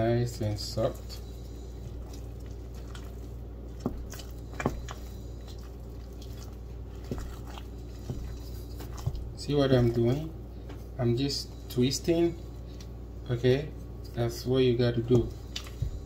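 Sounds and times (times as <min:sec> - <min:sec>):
squishing of soft dough: 0:00.0 - 0:16.0
steady low hum: 0:00.0 - 0:16.0.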